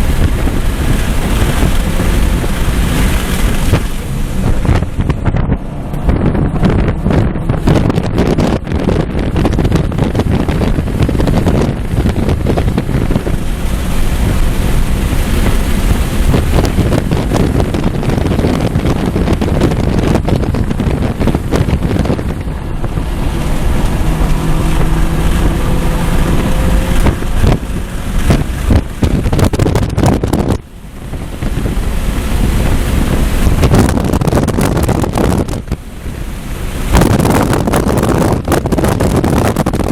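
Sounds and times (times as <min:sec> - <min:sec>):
car engine rumble: 0:00.0 - 0:39.9
wind buffeting on microphone: 0:00.0 - 0:39.9.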